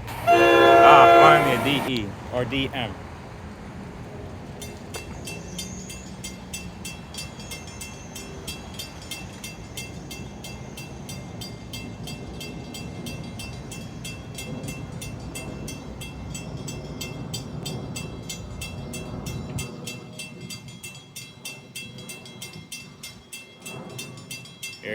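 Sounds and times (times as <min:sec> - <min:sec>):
diesel train rumbling: 0:00.0 - 0:20.8.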